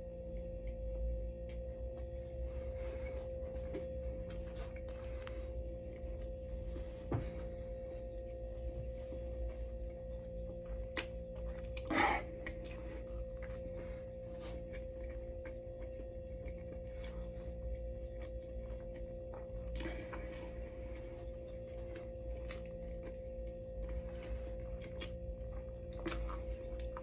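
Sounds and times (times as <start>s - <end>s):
steady humming tone: 0.0s - 27.0s
person chewing sandwich: 0.1s - 27.0s.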